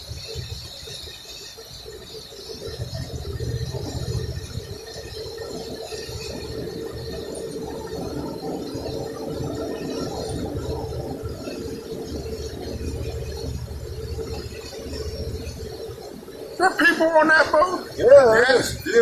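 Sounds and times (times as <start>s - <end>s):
hull and water rumble: 0.0s - 19.0s
motorboat engine running: 0.0s - 19.0s.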